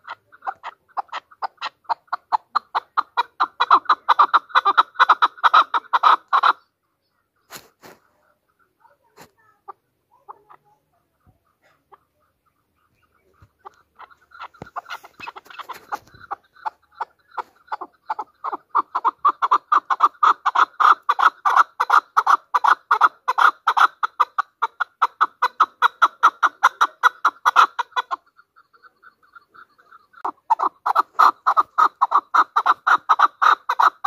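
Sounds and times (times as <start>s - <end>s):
partridge calling rapid notes: 0.0s - 34.0s.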